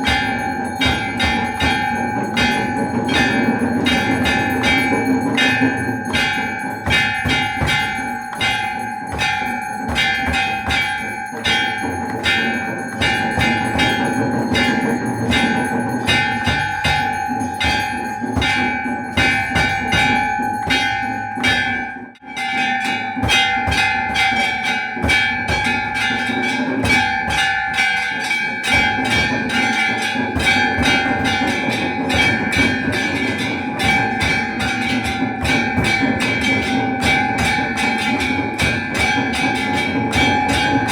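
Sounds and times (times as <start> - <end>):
bell clapper strikes: 0.0 - 40.9
temple bells ringing: 0.0 - 40.9.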